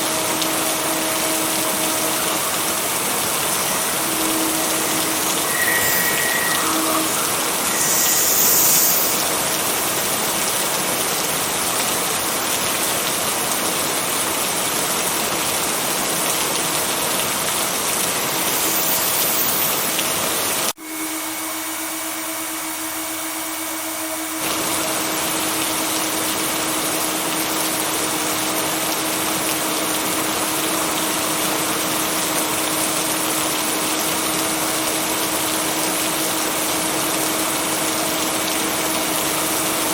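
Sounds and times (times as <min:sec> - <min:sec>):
dense rain hiss: 0:00.0 - 0:20.8, 0:24.4 - 0:39.9.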